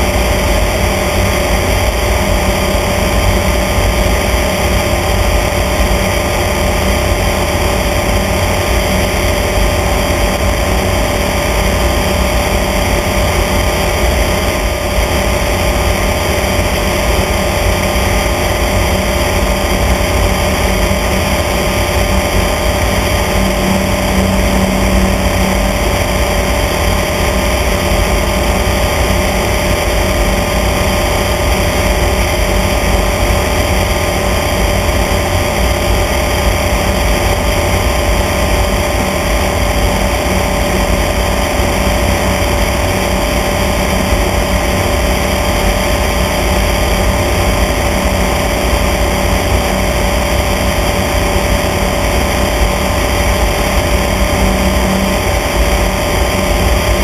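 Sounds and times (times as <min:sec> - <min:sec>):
small airplane engine droning: 0:00.0 - 0:57.0.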